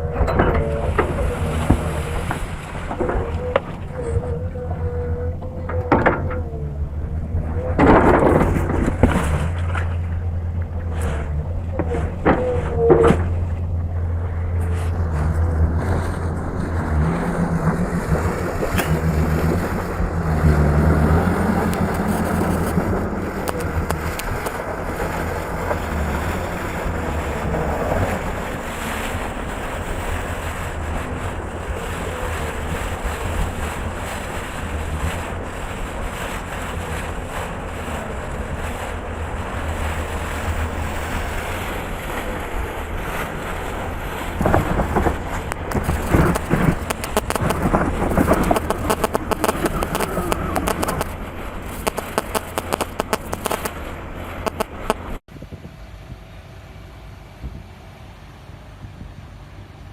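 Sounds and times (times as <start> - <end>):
construction machine engine rumbling: 0.0 - 59.9
wind noise on microphone: 0.0 - 59.9.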